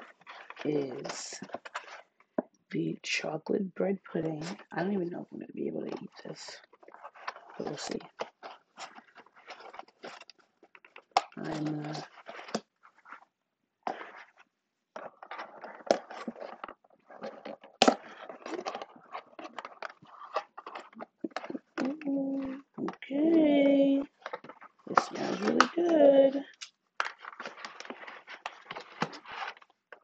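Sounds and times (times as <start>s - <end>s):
plastic and paper packaging crinkling: 0.0s - 2.3s, 4.0s - 30.0s.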